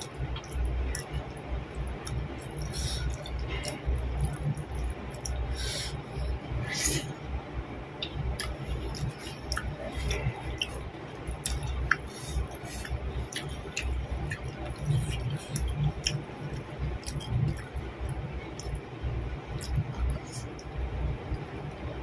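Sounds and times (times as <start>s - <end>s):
wet mouth clicks and smacks: 0.0s - 5.7s, 8.0s - 18.8s, 19.6s - 21.4s
person chewing soft food: 0.0s - 7.1s, 8.0s - 21.8s.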